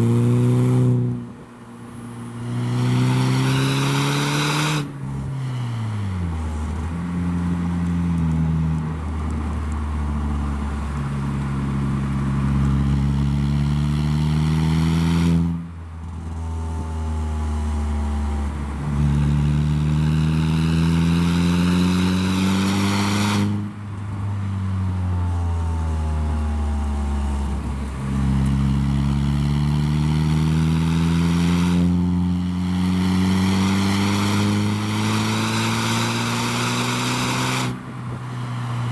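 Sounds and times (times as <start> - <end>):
car engine accelerating through gears: 2.2 - 23.7, 24.7 - 38.9.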